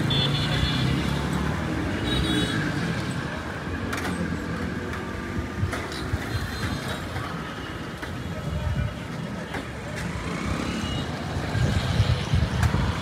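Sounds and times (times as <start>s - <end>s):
street traffic passing: 0.0s - 13.0s.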